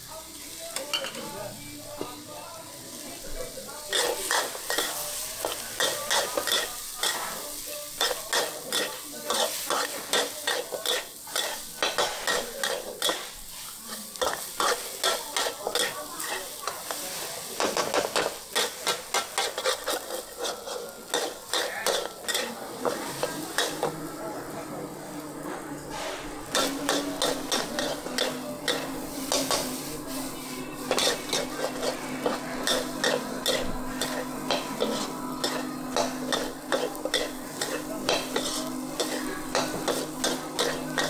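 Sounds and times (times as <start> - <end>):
rice sizzling in hot oil: 0.0 - 41.0
metal spatula scraping wok: 2.9 - 41.0.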